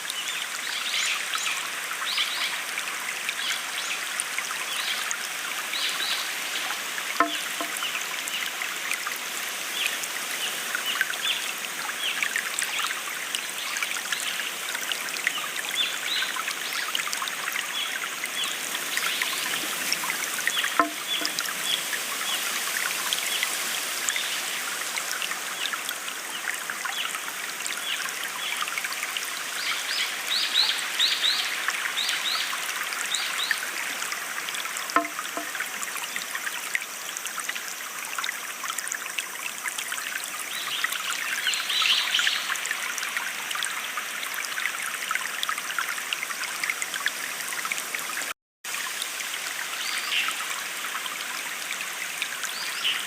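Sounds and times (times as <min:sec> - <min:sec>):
small stream trickling: 0:00.0 - 0:53.0.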